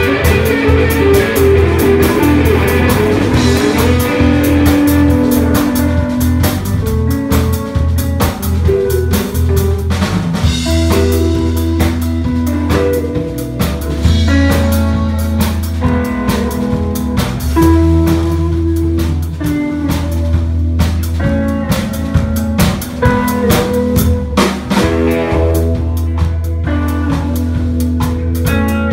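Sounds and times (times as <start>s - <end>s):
bass guitar: 0.0s - 28.9s
drum kit beat: 0.0s - 28.9s
electric guitar: 0.0s - 28.9s.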